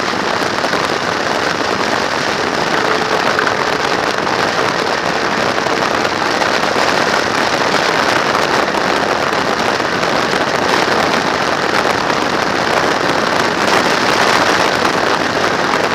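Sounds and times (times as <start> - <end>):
road noise: 0.0 - 15.9
wind rushing: 0.0 - 15.9.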